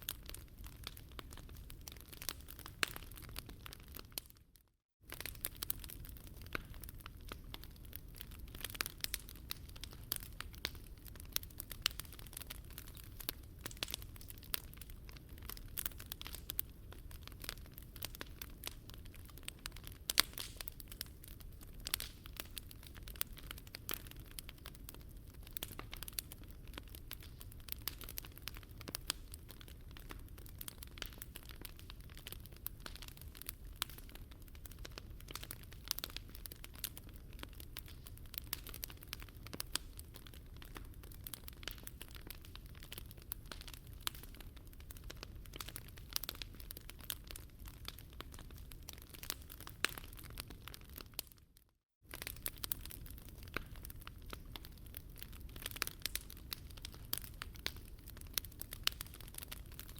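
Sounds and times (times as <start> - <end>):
campfire crackling: 0.0 - 4.4, 5.1 - 51.4, 52.1 - 59.9.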